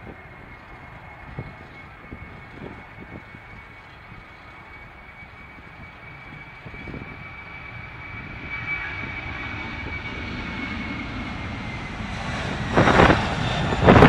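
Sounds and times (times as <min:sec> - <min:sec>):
jet engine rumble: 0:00.0 - 0:14.0
jet engine whine: 0:00.0 - 0:14.0
wind gusts on microphone: 0:00.0 - 0:14.0.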